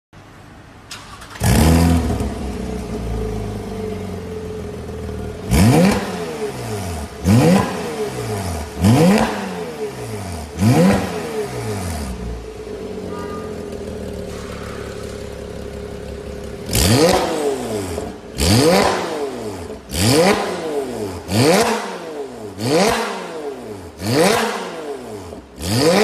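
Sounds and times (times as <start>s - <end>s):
car engine revving and idling: 0.3s - 26.0s.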